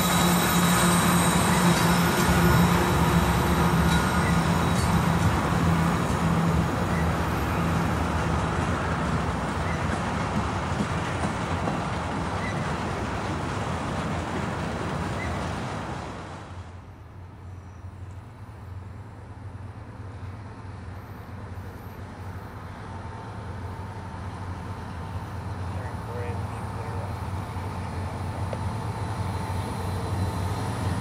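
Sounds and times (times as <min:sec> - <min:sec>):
distant train approaching: 0:00.0 - 0:31.0
freight train rumbling and rattling: 0:00.0 - 0:31.0.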